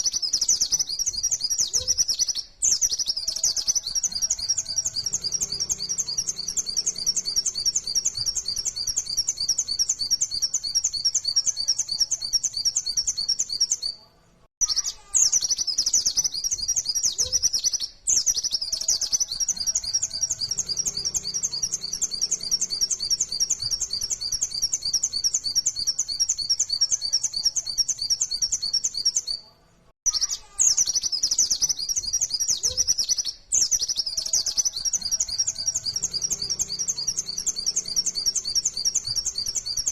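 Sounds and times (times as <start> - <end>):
bird singing rapid high notes: 0.0 - 14.0, 14.6 - 29.4, 30.0 - 39.9.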